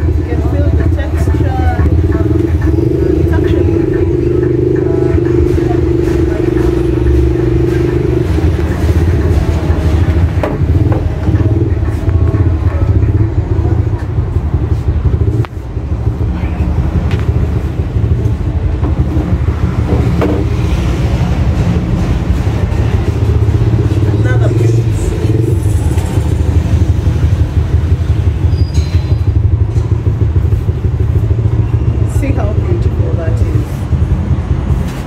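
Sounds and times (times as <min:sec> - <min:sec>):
low engine rumble: 0:00.0 - 0:35.0.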